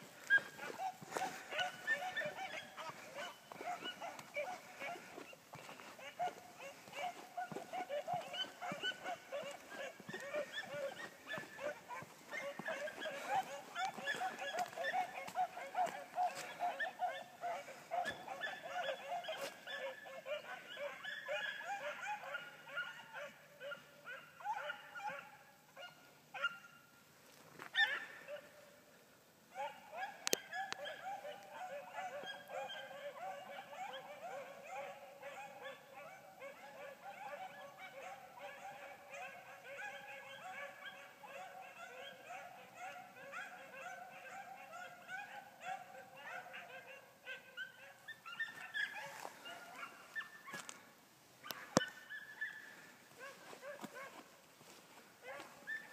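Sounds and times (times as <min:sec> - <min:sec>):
hounds baying: 0:00.0 - 0:26.8, 0:27.6 - 0:28.7, 0:29.5 - 0:55.9.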